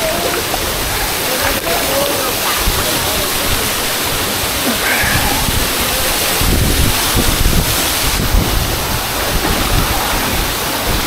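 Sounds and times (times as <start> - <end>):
low rumble of water: 0.0 - 11.0
waterfall pouring into pool: 0.0 - 11.0.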